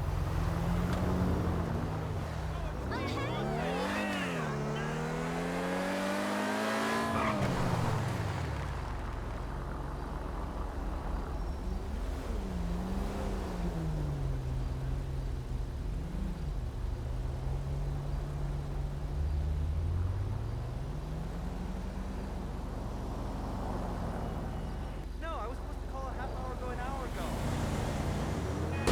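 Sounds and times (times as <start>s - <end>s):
car engine running at low revs: 0.0s - 28.9s.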